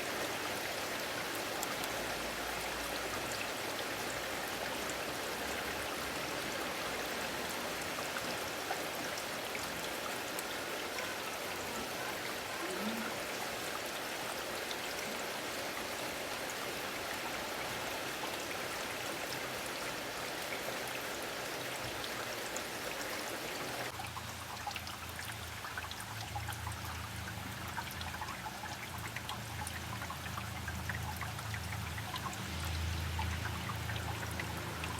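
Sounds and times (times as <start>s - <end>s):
rain pattering: 0.0s - 34.9s
water trickling: 0.0s - 34.9s.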